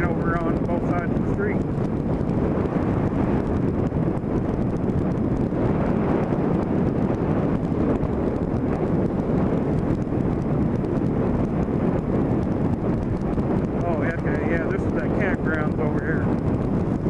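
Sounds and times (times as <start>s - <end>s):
vehicle road noise: 0.0s - 17.0s
wind on microphone: 0.0s - 17.0s.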